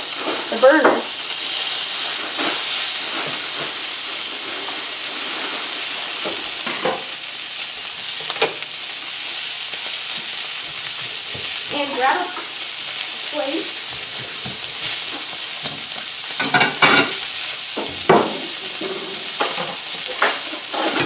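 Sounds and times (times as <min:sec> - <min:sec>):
steak sizzling in frying pan: 0:00.0 - 0:21.0.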